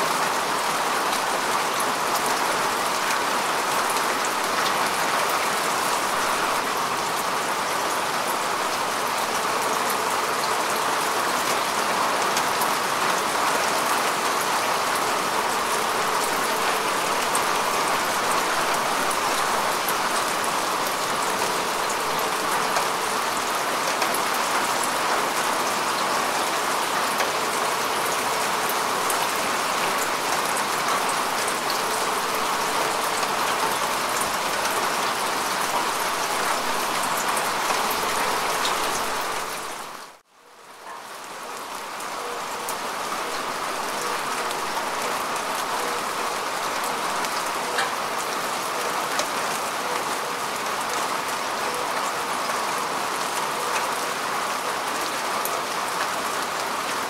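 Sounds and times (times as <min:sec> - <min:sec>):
rain falling on grass: 0:00.0 - 0:57.0.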